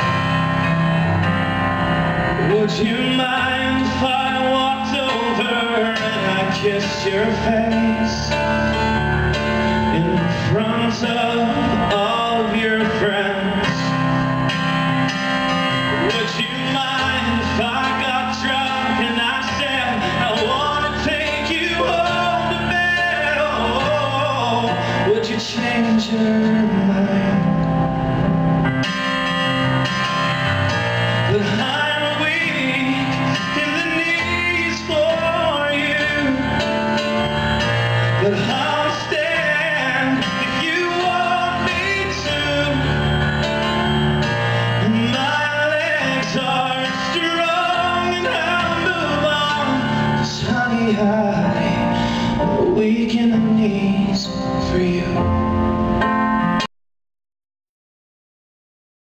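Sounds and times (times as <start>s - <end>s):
keyboard playing: 0.0s - 56.7s
man singing into microphone: 2.2s - 14.3s, 15.8s - 27.8s, 30.9s - 55.6s.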